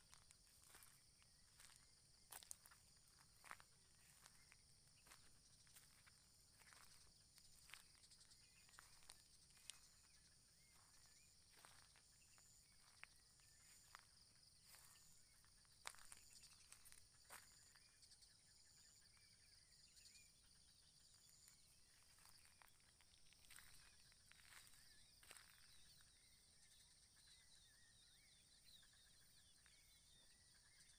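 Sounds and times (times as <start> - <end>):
insect chorus buzzing: 0.0 - 30.9.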